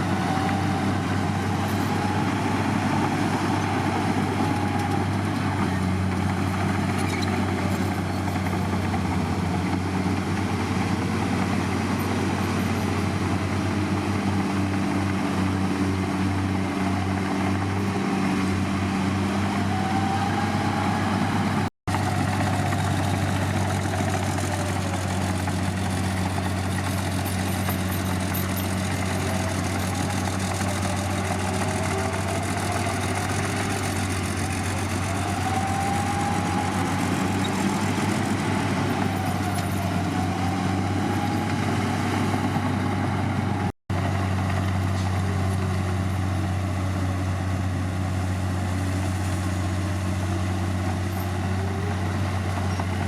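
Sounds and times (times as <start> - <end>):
heavy diesel machinery drone: 0.0 - 53.0.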